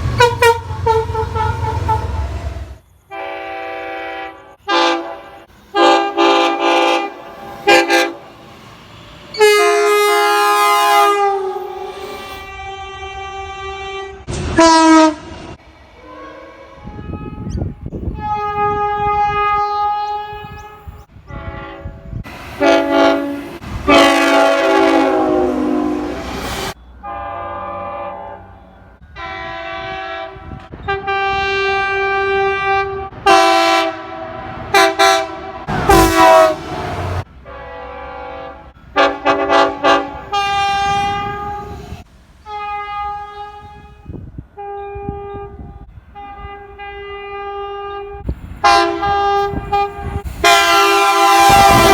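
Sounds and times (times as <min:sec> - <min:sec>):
train horns blasting: 0:00.0 - 0:51.9.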